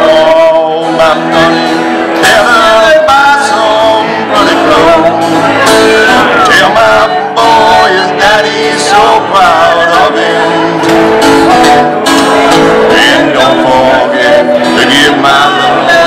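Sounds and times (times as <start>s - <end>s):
acoustic guitar: 0.0s - 16.0s
person singing: 0.0s - 16.0s.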